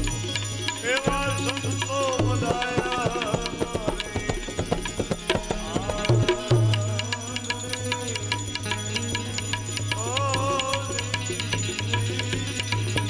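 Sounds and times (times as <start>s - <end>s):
gliding devotional melody: 0.0s - 13.0s
hand-drum strokes: 0.0s - 13.0s.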